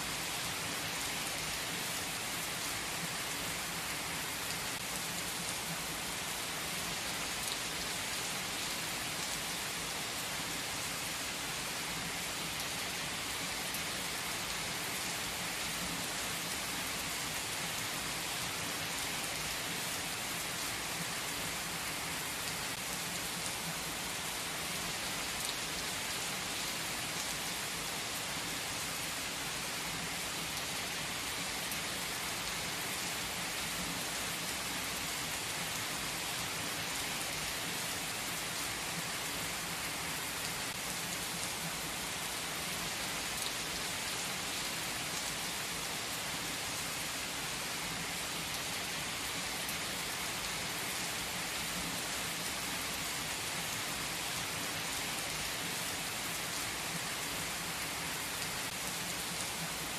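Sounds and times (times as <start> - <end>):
heavy rain on asphalt and cars: 0.0 - 59.9.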